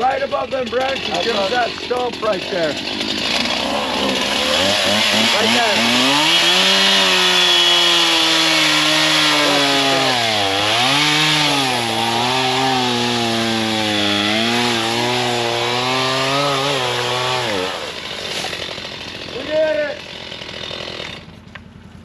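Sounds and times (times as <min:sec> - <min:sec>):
chainsaw cutting wood: 0:00.0 - 0:21.7.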